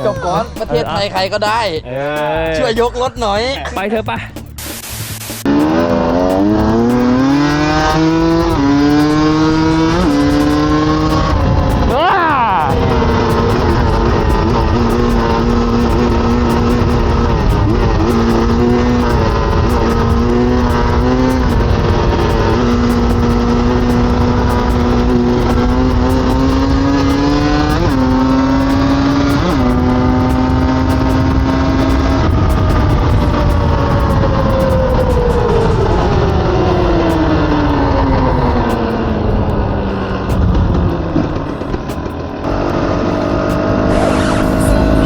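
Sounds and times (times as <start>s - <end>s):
dirt bike engine: 0.0s - 45.0s.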